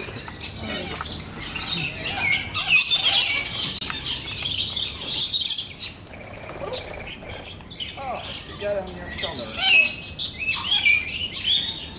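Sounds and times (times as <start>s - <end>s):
parrots chattering and squawking: 0.0s - 11.9s.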